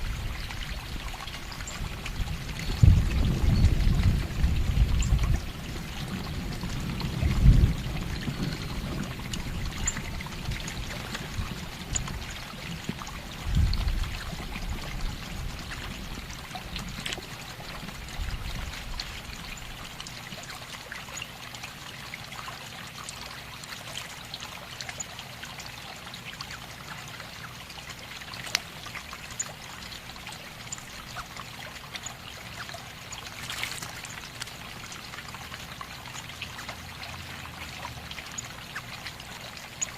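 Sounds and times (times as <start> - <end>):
water trickling and pouring: 0.0 - 39.9.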